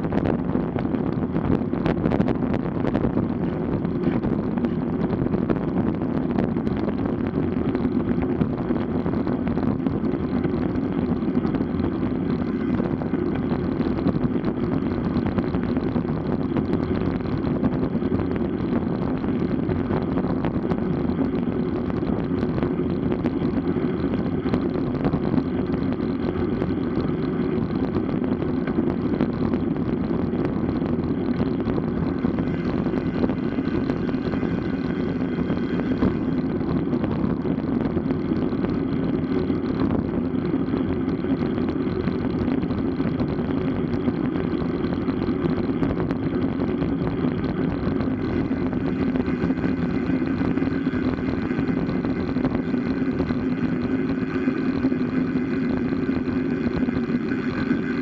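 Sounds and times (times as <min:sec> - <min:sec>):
bicycle tyre noise: 0:00.0 - 0:58.0
wind rush on microphone: 0:00.0 - 0:58.0.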